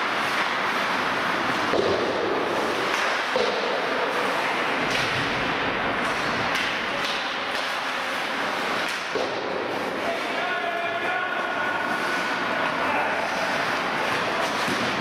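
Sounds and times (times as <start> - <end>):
hockey sticks and puck clacking: 0.0 - 15.0
skates scraping on ice: 0.0 - 15.0.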